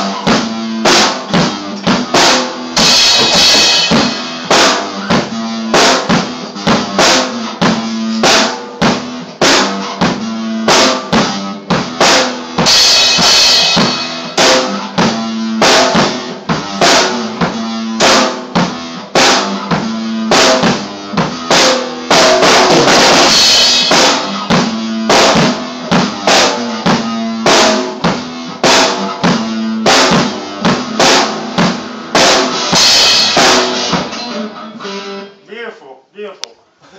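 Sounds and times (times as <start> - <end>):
drum kit beat: 0.0 - 35.4.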